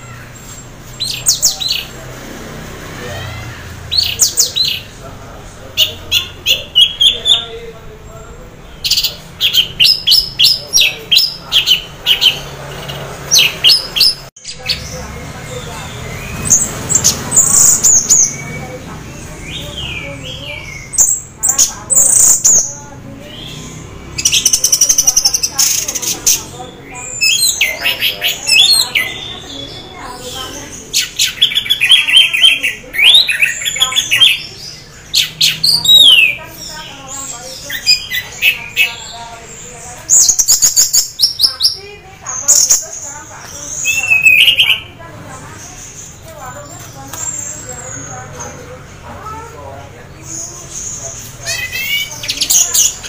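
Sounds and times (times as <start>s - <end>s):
thrush singing: 0.0s - 53.0s.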